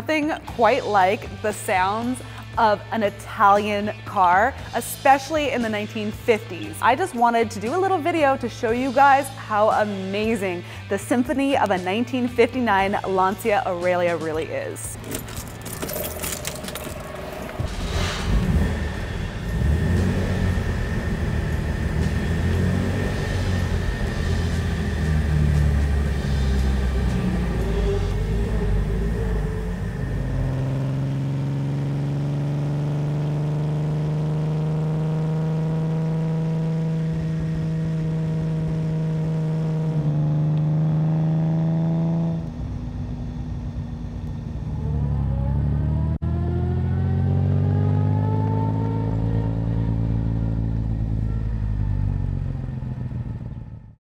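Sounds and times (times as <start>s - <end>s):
car engine and exhaust: 0.0s - 54.0s.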